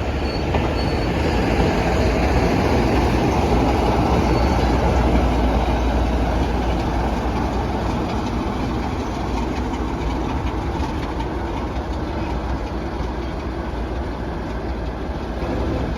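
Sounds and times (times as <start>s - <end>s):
train wheel and engine noise: 0.0s - 15.9s.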